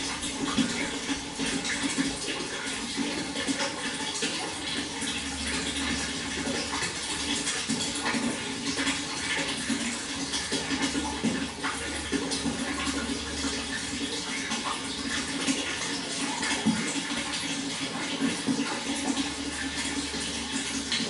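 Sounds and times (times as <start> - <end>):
water rushing and splashing: 0.0 - 21.0.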